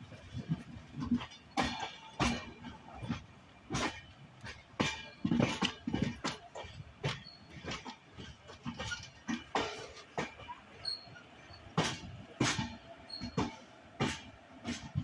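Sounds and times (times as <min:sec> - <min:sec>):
low train rumble: 0:00.0 - 0:15.0
train wheels clacking over rail joints: 0:00.0 - 0:15.0.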